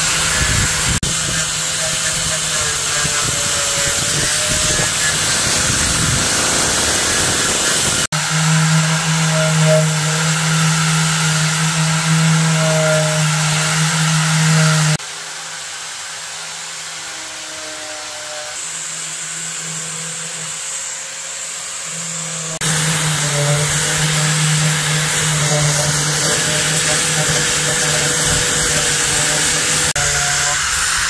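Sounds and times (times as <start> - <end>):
electric power tool running: 0.0 - 31.0.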